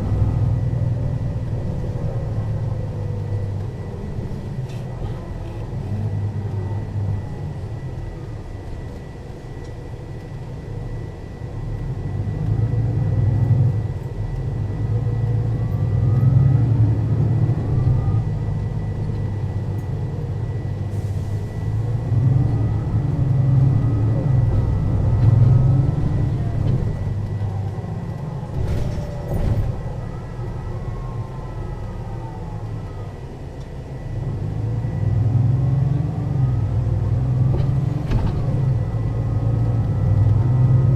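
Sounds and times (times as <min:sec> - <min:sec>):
bus diesel engine: 0:00.0 - 0:40.9
gearbox whine: 0:00.0 - 0:40.9.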